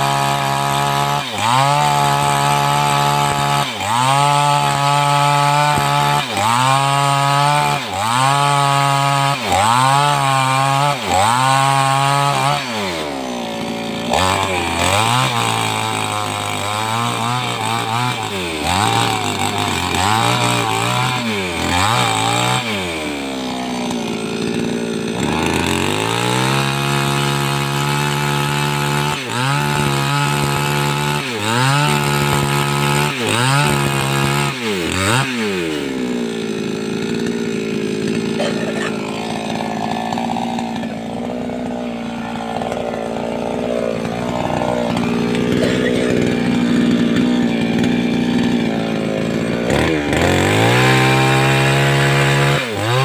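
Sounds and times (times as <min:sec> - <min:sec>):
chainsaw cutting wood: 0:00.0 - 0:53.0
chainsaw revving: 0:00.0 - 0:53.0.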